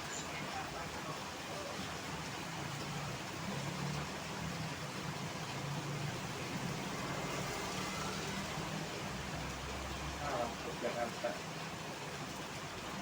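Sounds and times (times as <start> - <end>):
rain hiss on wet road: 0.0 - 13.0.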